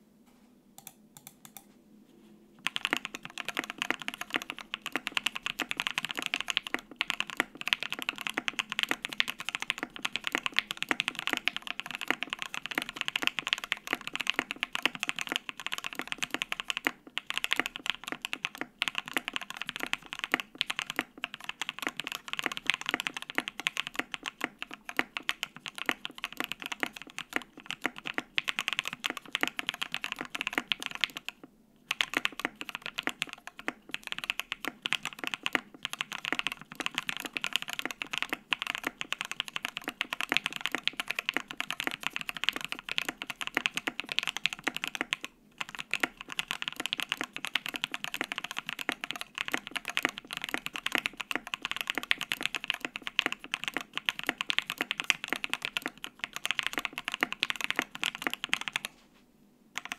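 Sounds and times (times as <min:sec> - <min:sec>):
mechanical keyboard typing: 0:00.8 - 0:01.6, 0:02.6 - 0:58.9.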